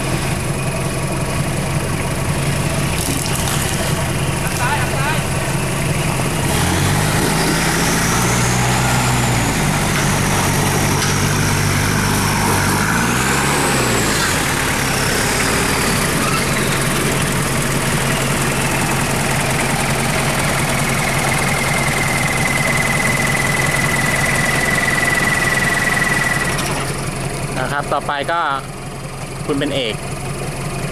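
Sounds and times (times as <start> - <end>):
truck engine revving: 0.0 - 28.7.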